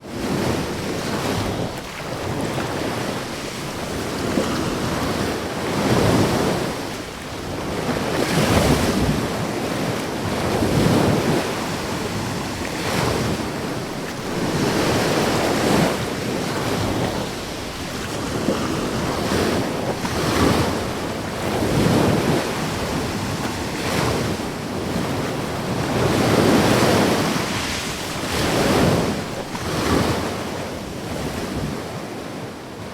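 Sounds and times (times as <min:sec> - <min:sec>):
ocean waves breaking: 0:00.0 - 0:32.9.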